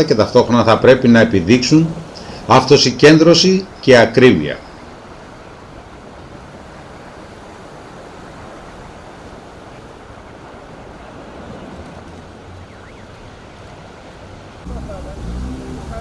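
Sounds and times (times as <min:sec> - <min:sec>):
water noise: 0:00.0 - 0:16.0
wind: 0:00.0 - 0:16.0.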